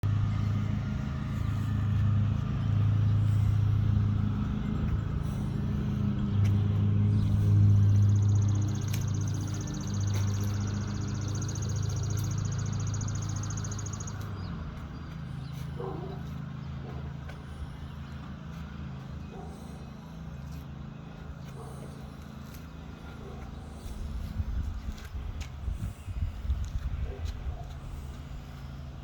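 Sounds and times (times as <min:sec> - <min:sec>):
car engine idling: 0:00.0 - 0:25.4.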